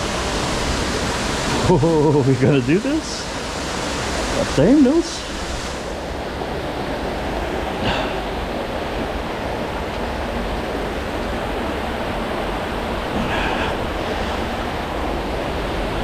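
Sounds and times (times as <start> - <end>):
underground river rushing: 0.0 - 16.0.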